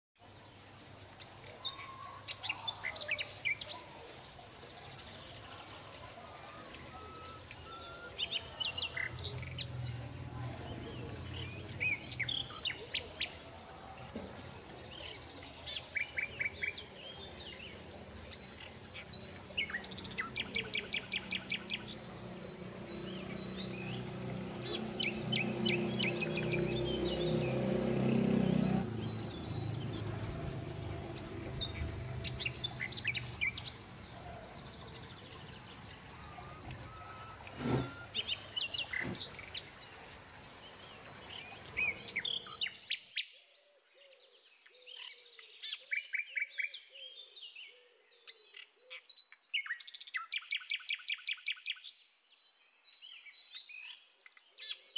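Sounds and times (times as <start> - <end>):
birds chirping and singing: 1.6 - 40.0, 40.6 - 54.9.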